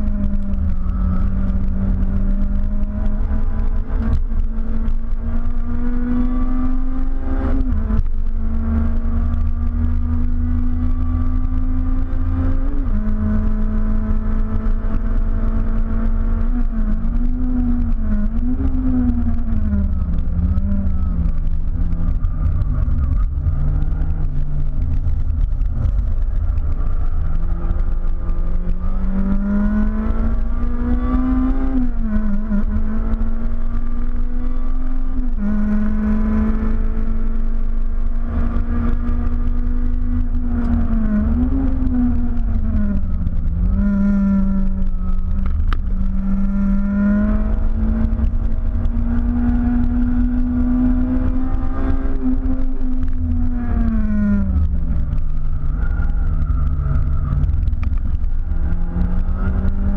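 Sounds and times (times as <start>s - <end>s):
car engine revving: 0.0s - 59.9s
deep engine rumble: 0.0s - 59.9s.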